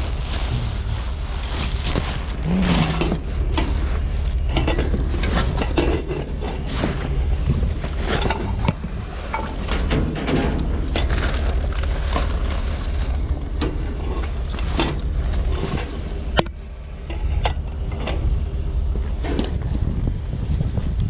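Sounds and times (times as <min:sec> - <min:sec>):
junk clattering and scraping: 0:00.0 - 0:20.9
steady low rumble: 0:00.0 - 0:21.0.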